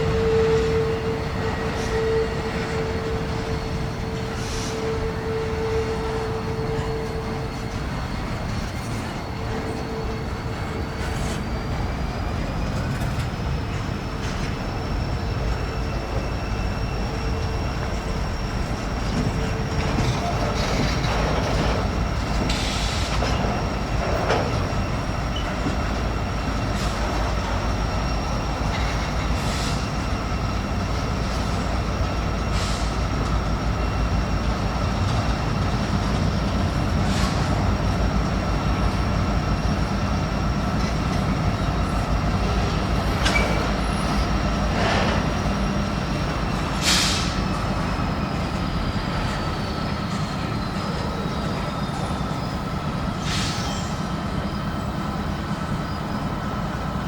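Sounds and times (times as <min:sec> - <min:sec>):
high wheel squeal: 0:00.0 - 0:57.0
steel wheels rumbling on rail: 0:00.0 - 0:57.0.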